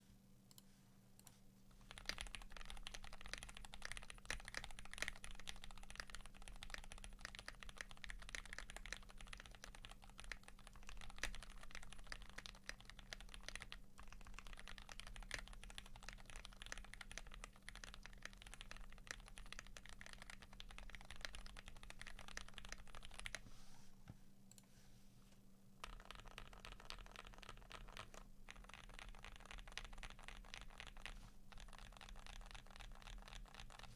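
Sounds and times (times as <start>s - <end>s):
fast mechanical keyboard typing: 1.8s - 23.4s, 25.8s - 33.9s.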